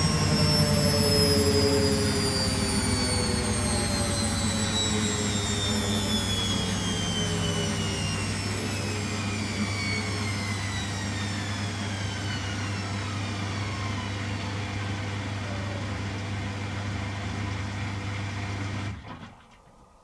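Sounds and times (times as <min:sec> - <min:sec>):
washing machine motor whine: 0:00.0 - 0:19.9.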